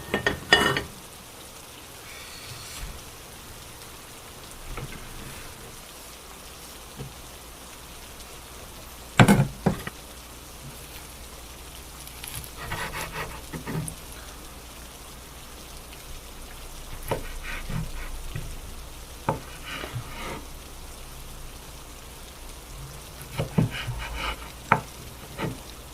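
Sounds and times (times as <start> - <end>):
steady hiss: 0.0 - 25.9.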